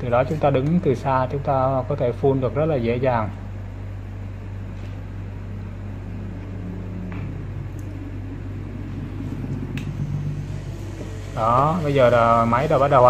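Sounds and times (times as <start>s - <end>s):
electric pump humming: 0.0s - 13.0s.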